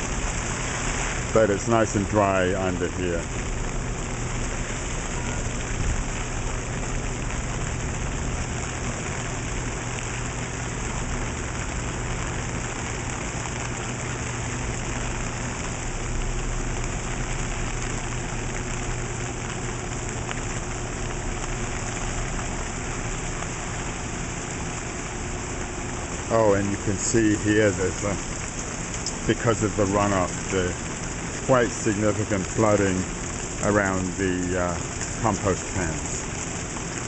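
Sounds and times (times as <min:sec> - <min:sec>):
rain falling on an umbrella: 0:00.0 - 0:37.0.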